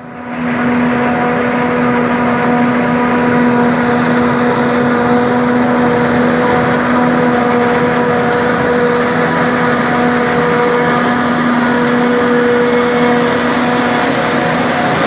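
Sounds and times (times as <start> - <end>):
forage harvester droning: 0.0 - 15.0.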